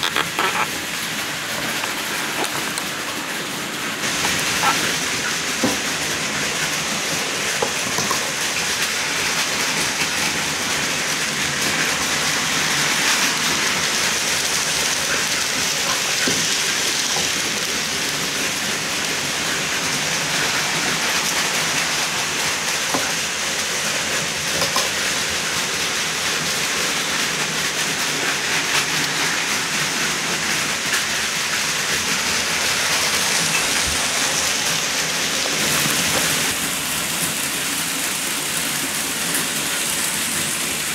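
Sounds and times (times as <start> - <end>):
model train wheels and motors hissing: 0.0 - 40.9.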